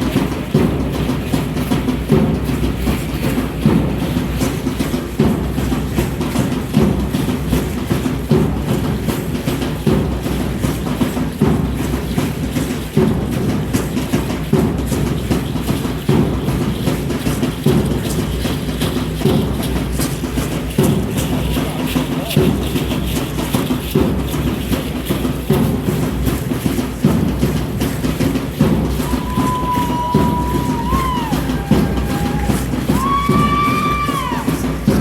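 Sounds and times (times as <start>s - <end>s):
heavy drum beat: 0.0s - 35.0s.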